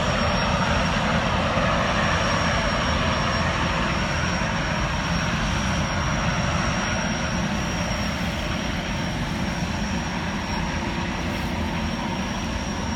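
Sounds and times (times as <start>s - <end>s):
gas turbines rushing with high whine: 0.0s - 12.9s.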